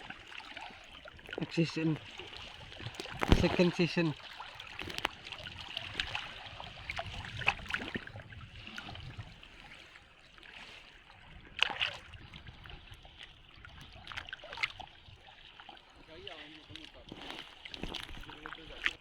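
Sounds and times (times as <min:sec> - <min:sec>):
sharp water splashes: 0:00.0 - 0:19.0
water sloshing and splashing: 0:00.0 - 0:19.0.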